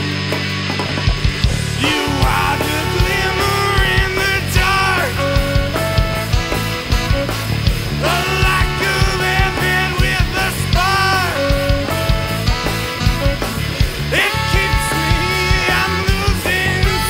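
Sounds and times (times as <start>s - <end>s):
drums: 0.0s - 17.0s
rock band playing live: 0.0s - 17.0s
saxophone: 1.4s - 17.0s
trumpet: 1.6s - 17.0s.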